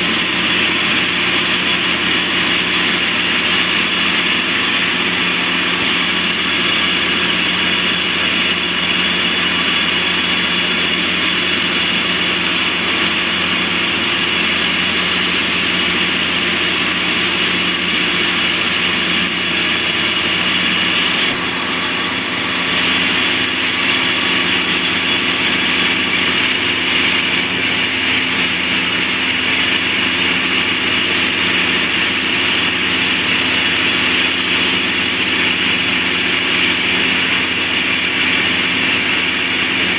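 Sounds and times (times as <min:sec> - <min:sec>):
drill rig drilling into rock: 0:00.0 - 0:39.9.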